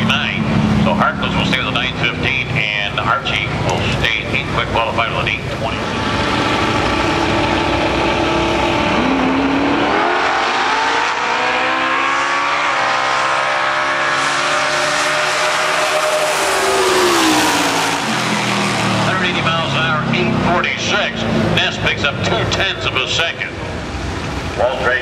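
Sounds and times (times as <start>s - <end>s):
race car engines at full throttle: 0.0s - 25.0s.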